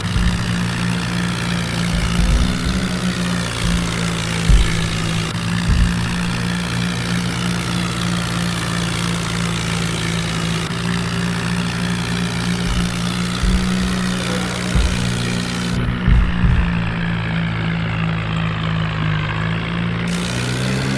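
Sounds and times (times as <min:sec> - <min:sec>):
low thumps: 0:00.0 - 0:08.7, 0:09.4 - 0:18.0
tractor diesel engine running: 0:00.0 - 0:20.9.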